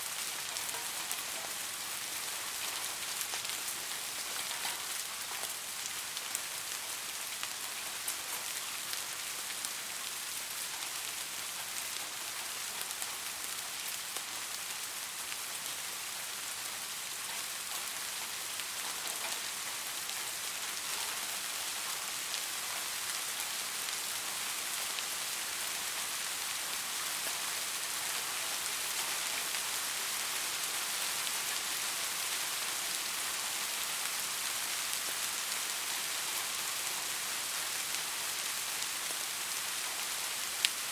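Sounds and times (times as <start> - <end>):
soft rain pattering: 0.0 - 40.9.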